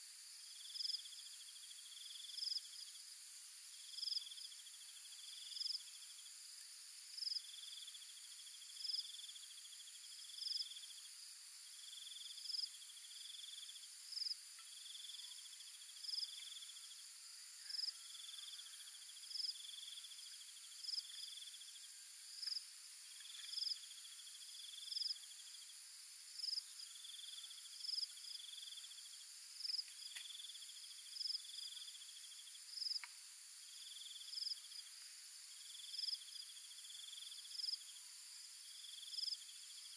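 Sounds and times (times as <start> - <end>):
insect chorus humming: 0.0 - 39.9
sharp insect chirp: 0.0 - 39.9.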